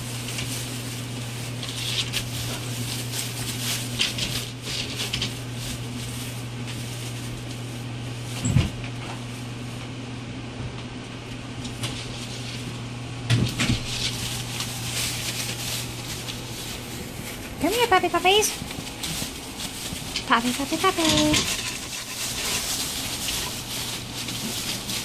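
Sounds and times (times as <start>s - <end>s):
paper bedding rustling: 0.0s - 10.0s, 11.2s - 25.0s
steady low hum: 0.0s - 25.0s.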